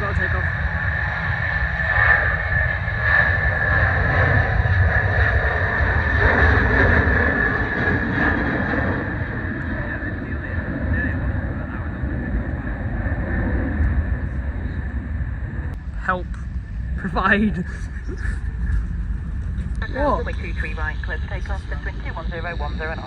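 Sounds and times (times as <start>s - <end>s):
jet engines high whine: 0.0s - 23.0s.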